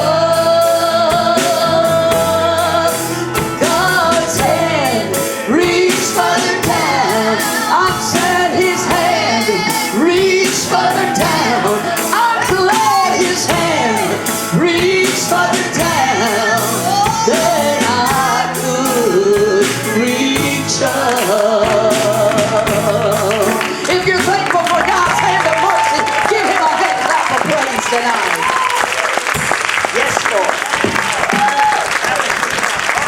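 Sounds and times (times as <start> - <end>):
steady drum beat: 0.0 - 26.7
worship band and singers: 0.0 - 29.6.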